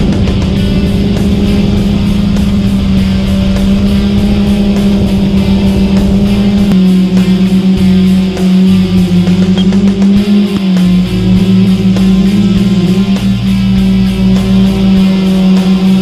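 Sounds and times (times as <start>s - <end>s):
distorted electric guitar drone: 0.0s - 16.0s.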